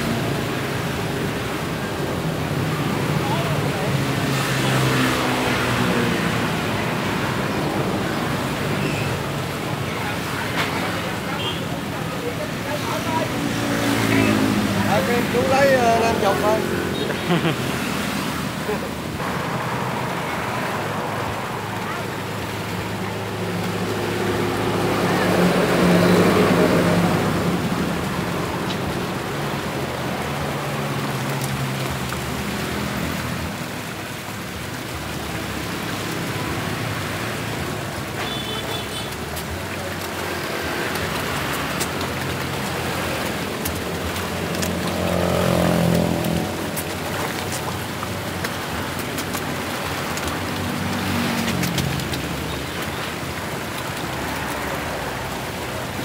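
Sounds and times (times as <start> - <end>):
fish splashing in pond: 0.0 - 56.0
running water: 0.0 - 56.0.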